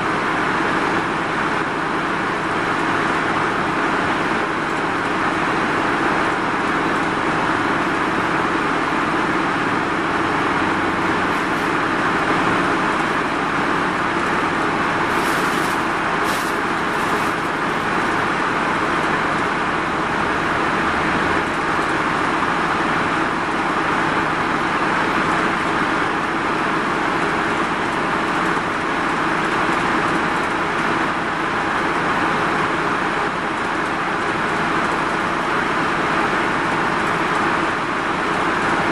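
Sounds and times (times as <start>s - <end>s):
diesel engine and road noise: 0.0s - 38.9s.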